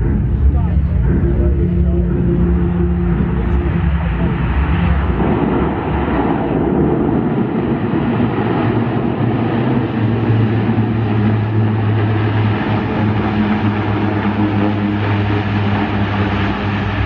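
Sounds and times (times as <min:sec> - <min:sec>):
aircraft engines droning: 0:00.0 - 0:17.0
low hum: 0:00.0 - 0:17.0.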